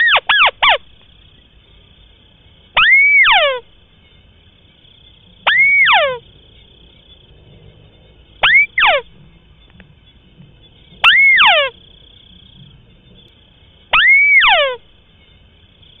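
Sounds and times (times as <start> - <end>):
crake calling: 0.0 - 7.2, 7.9 - 16.0.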